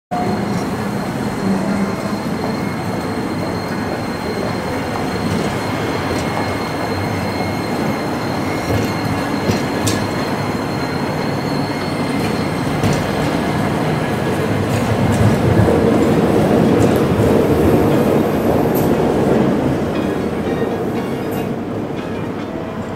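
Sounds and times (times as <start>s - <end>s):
high tone from wheels on rails: 0.1s - 22.9s
streetcar wheels and motors rumbling: 0.1s - 22.9s.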